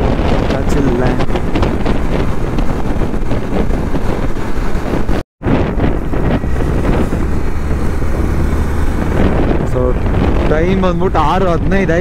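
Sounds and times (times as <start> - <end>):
motorcycle engine running: 0.0 - 11.9
wind rushing over microphone: 0.0 - 12.0.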